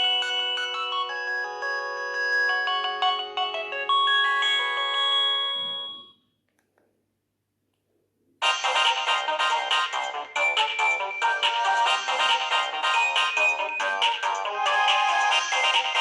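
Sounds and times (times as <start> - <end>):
polyphonic phone ringtone: 0.0 - 6.2, 8.4 - 16.0.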